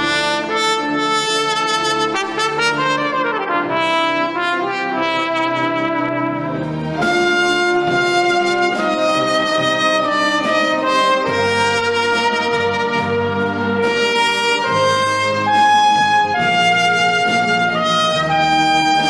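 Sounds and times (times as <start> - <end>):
low bass line: 0.0 - 19.0
orchestral strings: 0.0 - 19.0
solo trumpet melody: 0.0 - 19.0.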